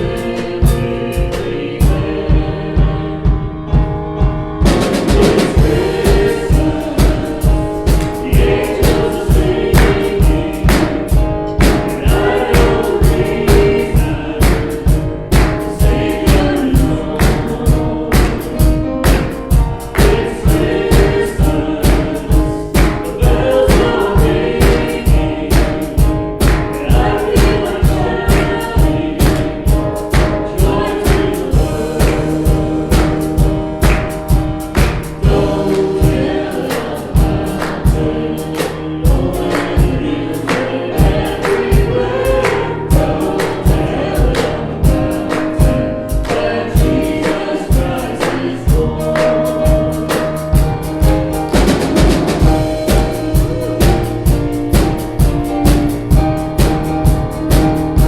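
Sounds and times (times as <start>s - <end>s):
choir singing gospel: 0.0s - 58.0s
steady drum beat: 0.0s - 58.0s.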